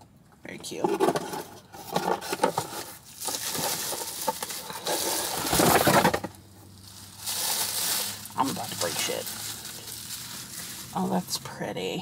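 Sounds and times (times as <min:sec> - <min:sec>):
paper and packing material crinkling: 0:01.0 - 0:11.9.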